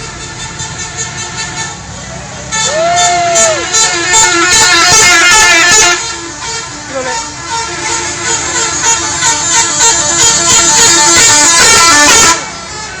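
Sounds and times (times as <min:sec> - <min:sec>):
bus musical horn playing a tune: 0:00.0 - 0:13.0.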